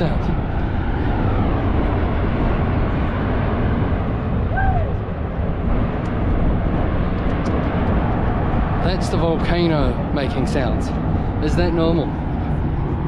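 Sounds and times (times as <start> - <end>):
volcano rumbling: 0.0 - 13.0.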